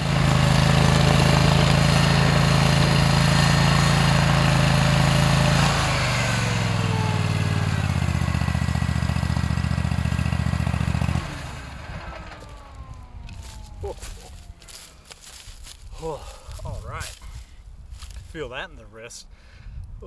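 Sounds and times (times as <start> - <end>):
stump grinder engine running: 0.0 - 18.2.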